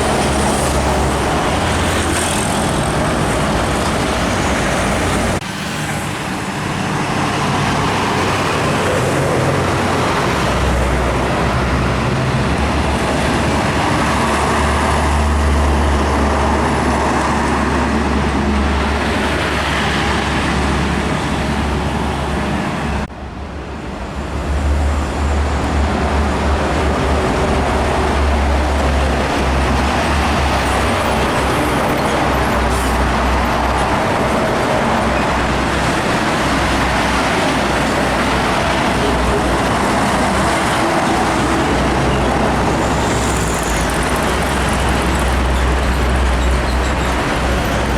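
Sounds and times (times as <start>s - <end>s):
heavy trucks passing: 0.0s - 47.9s
tyre and traffic noise: 0.0s - 47.9s.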